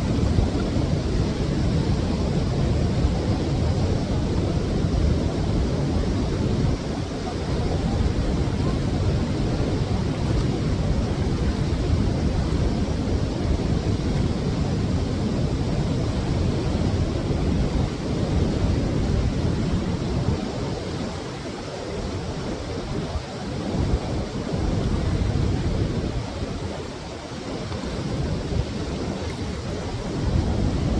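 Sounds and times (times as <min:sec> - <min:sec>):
waterfall rushing: 0:05.0 - 0:30.9.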